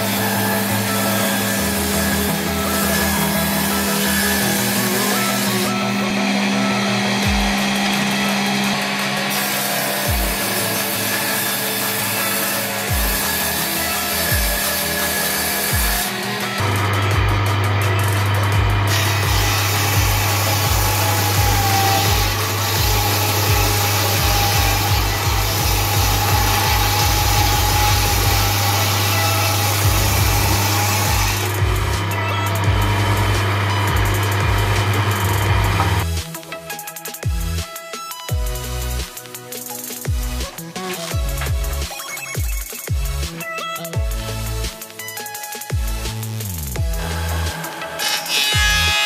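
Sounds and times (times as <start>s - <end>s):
woodworking machine humming: 0.0s - 36.2s, 46.0s - 49.0s
table saw cutting wood: 0.0s - 36.4s, 38.6s - 43.4s, 44.2s - 49.0s.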